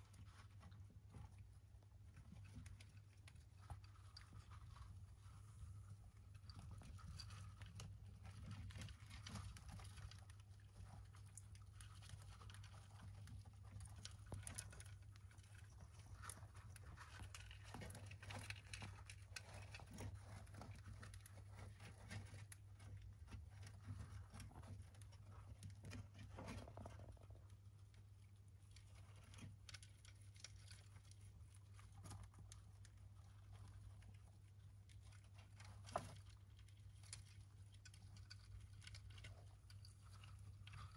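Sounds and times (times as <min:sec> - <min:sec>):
hamsters nibbling food: 0:00.0 - 0:40.9
hamsters rustling in bedding: 0:00.0 - 0:40.9.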